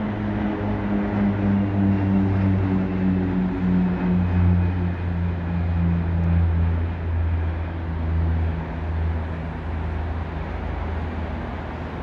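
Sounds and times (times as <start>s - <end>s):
turboprop aircraft drone: 0.0s - 12.0s.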